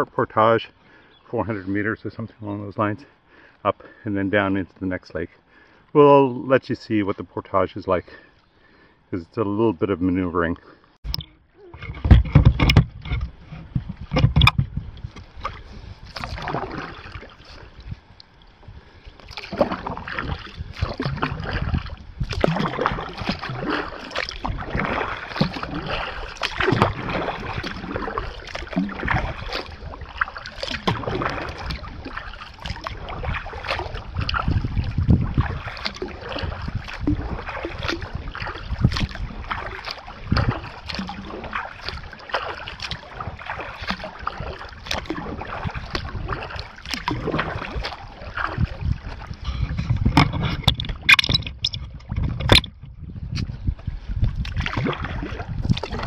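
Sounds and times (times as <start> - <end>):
paddle splashing in water: 11.0 - 56.0.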